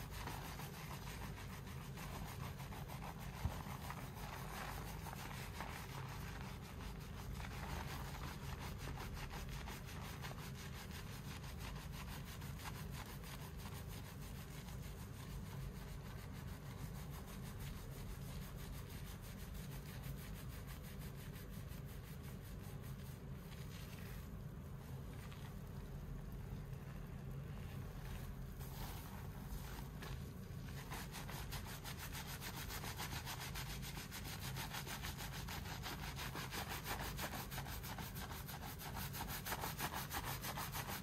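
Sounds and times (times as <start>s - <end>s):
low steady hum: 0.0s - 41.0s
scrubbing lathered wet hair: 0.0s - 41.0s.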